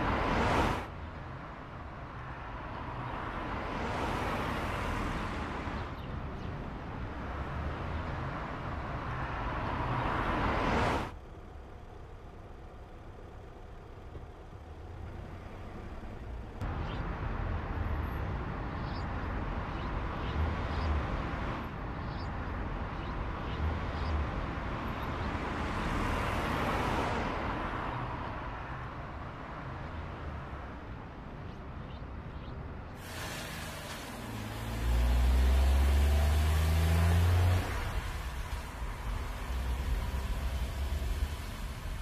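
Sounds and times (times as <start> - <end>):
car engine: 0.0 - 42.0
tyre noise on road: 0.0 - 42.0.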